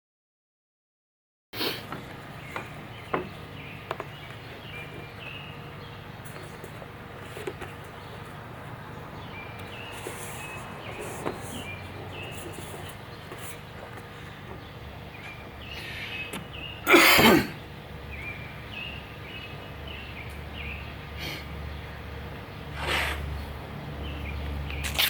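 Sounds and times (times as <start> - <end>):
birds chirping: 1.6 - 25.0.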